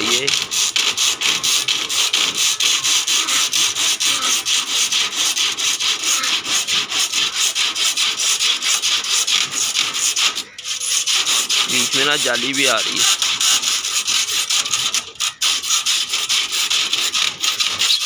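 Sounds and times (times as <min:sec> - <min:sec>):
hand saw cutting wood: 0:00.0 - 0:18.0.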